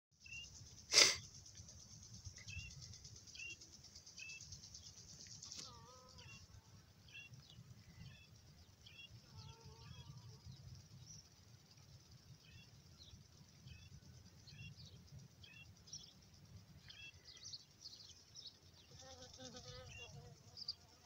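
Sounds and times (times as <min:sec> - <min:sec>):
small birds chirping: 0:00.2 - 0:21.0.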